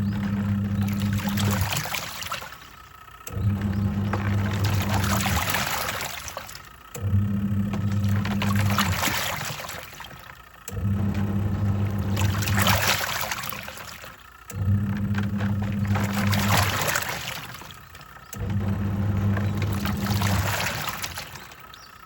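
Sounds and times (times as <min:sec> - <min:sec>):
washing machine motor humming: 0:00.0 - 0:22.0
water sloshing in tub: 0:00.0 - 0:22.0.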